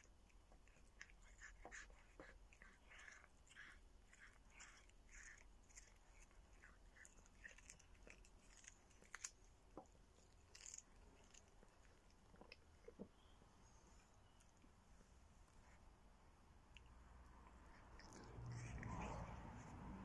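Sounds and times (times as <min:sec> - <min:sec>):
cat chewing meat and bone: 0:00.0 - 0:14.7, 0:16.5 - 0:20.0.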